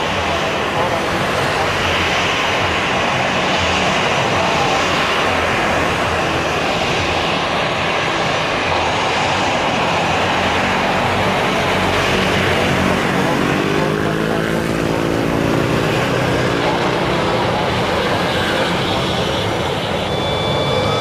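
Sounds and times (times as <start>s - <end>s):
jet engines at taxi thrust: 0.0s - 21.0s.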